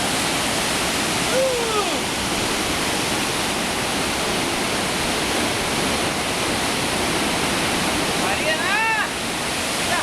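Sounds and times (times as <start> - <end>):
river water roaring: 0.0 - 10.0.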